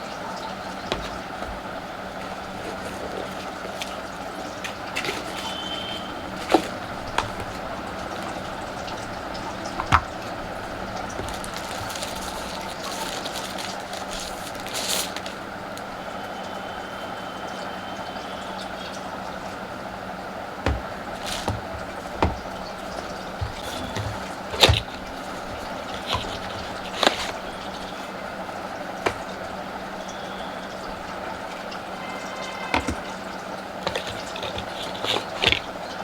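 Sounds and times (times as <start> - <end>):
handling clicks and knocks: 0.4 - 15.9, 20.6 - 36.0.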